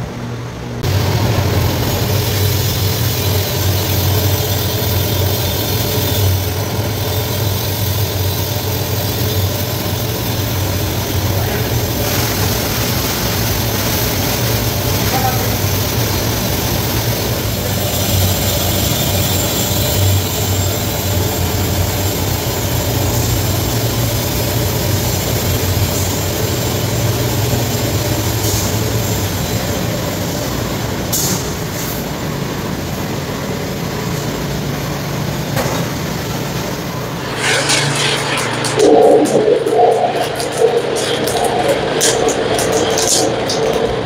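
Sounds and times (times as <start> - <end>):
machinery humming: 0.0 - 31.1, 32.2 - 44.0.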